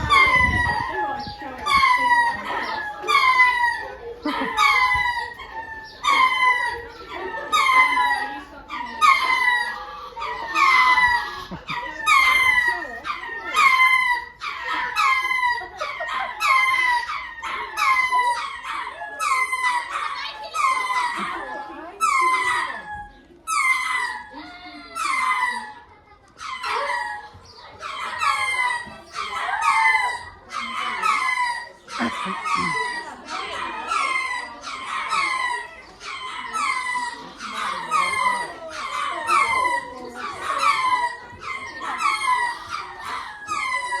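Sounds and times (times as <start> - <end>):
lemurs wailing cries: 0.0 - 44.0.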